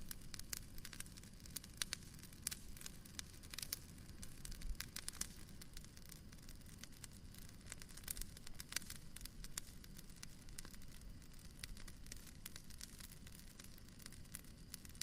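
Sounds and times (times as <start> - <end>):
fire crackling: 0.0 - 15.0
wood fire popping and snapping: 0.0 - 15.0.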